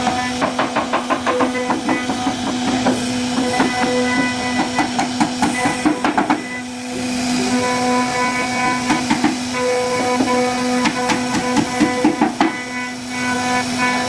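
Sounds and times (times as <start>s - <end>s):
rapid ticking of cutter: 0.0s - 14.0s
router spindle whine: 0.0s - 14.0s.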